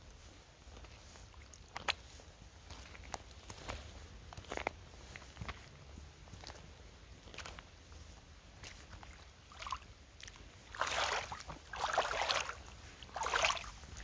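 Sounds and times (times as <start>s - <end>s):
boots splashing through mud puddle: 0.7s - 7.7s, 8.5s - 14.0s.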